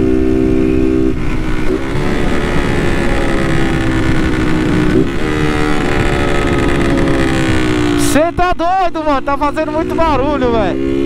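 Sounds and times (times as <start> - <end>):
motorcycle engine through open muffler: 0.0 - 10.7.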